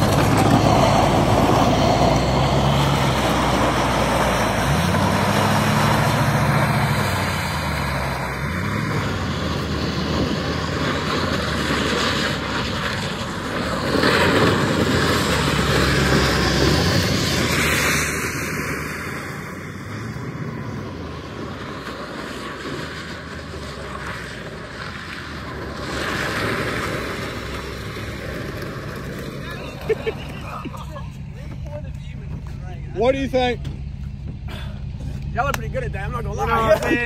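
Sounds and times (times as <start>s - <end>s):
pickup truck engine revving: 0.0s - 37.0s.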